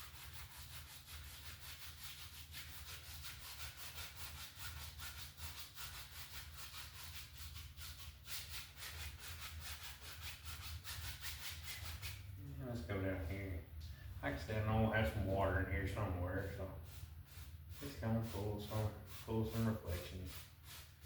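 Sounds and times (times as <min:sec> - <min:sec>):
brush scrubbing paint on canvas: 0:00.0 - 0:12.4, 0:15.0 - 0:21.0.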